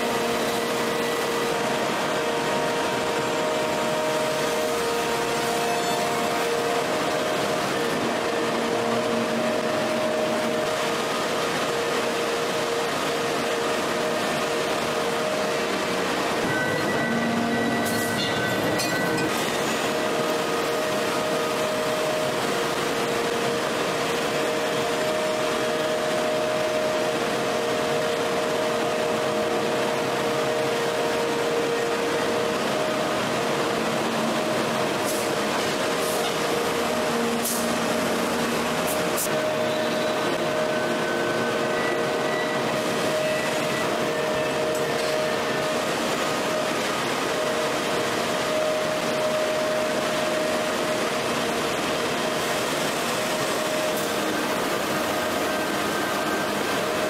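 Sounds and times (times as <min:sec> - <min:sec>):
hydraulic press industrial hum: 0:00.0 - 0:57.0.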